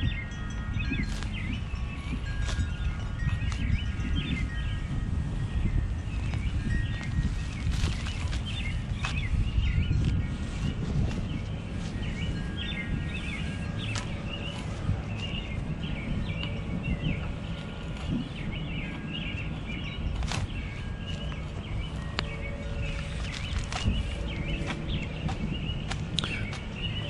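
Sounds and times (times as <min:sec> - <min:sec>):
wild birds chirping and singing: 0:00.0 - 0:27.0.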